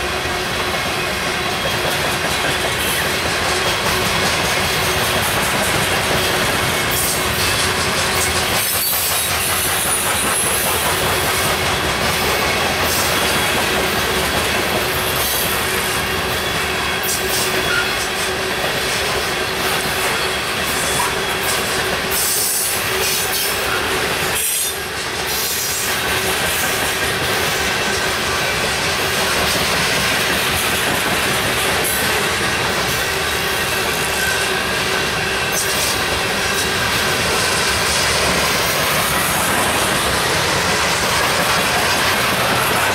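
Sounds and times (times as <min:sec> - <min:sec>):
train wheels rolling on rail: 0:00.0 - 0:42.9.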